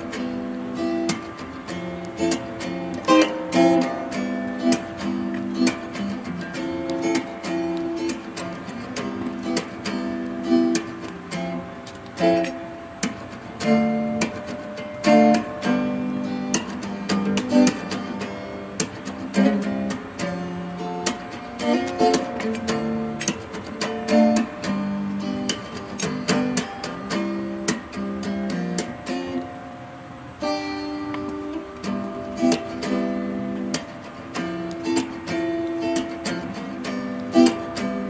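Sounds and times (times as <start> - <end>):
acoustic guitar music: 0.0 - 38.0.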